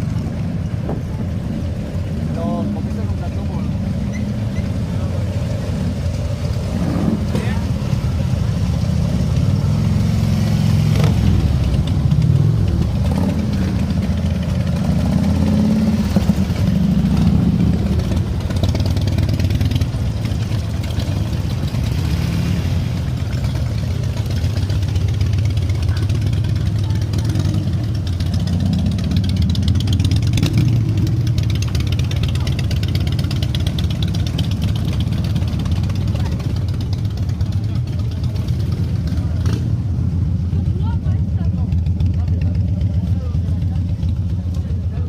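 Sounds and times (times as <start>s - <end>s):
motorcycle engines idling and revving: 0.0s - 45.0s.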